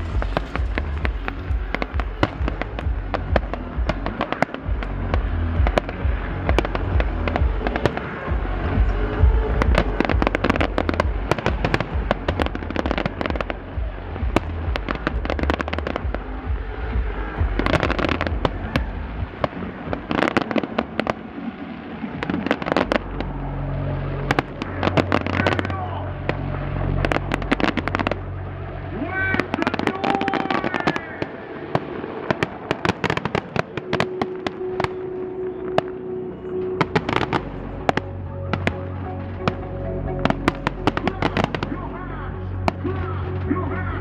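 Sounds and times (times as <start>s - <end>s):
bass-heavy dance music: 0.0s - 21.3s, 22.2s - 31.2s, 36.0s - 44.0s
fireworks bangs and crackles: 0.0s - 36.0s, 36.7s - 39.6s, 40.2s - 41.8s, 42.6s - 44.0s.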